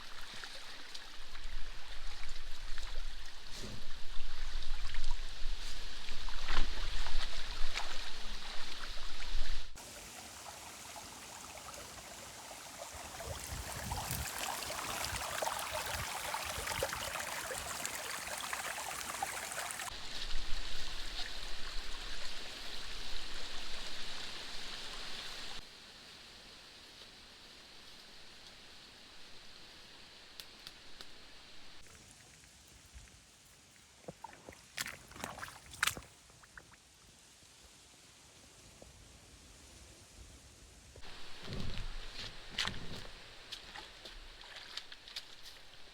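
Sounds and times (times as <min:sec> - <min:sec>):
water streaming and splashing: 0:00.0 - 0:37.4, 0:41.0 - 0:45.9.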